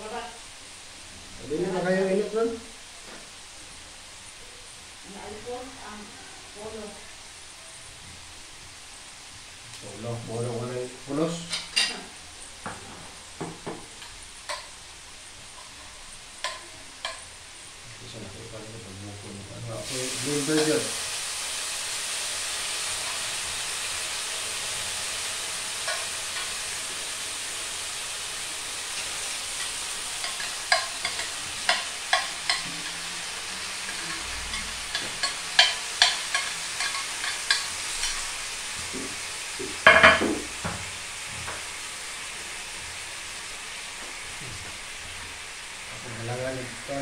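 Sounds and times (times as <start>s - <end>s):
hot oil sizzling: 0.0s - 47.0s.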